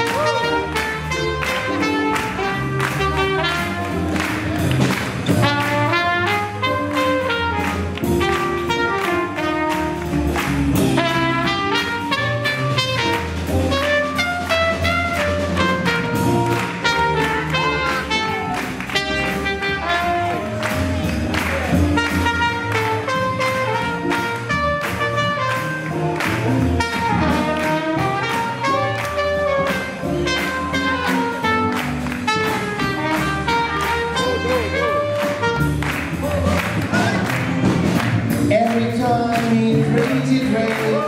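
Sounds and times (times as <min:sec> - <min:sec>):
people clapping along: 0:00.0 - 0:41.0
swing jazz band playing: 0:00.0 - 0:41.0.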